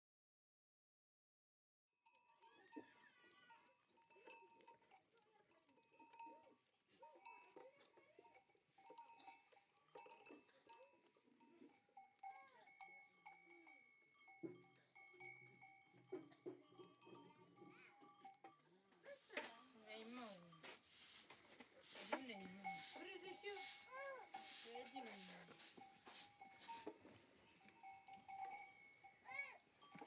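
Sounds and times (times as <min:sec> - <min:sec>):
neck bells ringing: 0:02.0 - 0:30.0.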